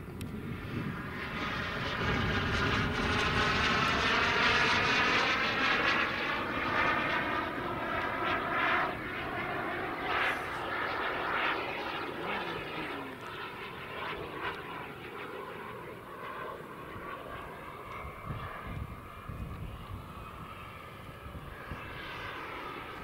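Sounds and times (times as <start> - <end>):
model jet turbine whine: 0.0 - 23.0.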